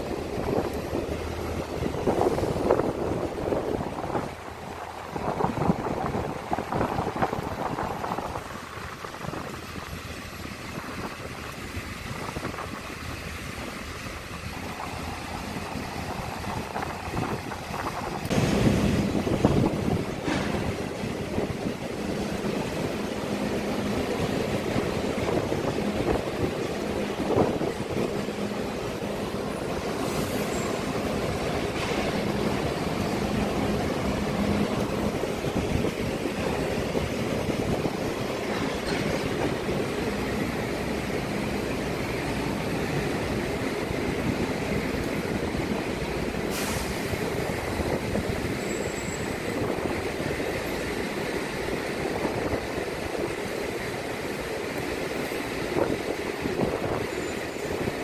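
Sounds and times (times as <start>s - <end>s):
machinery rumble: 0.0s - 58.0s.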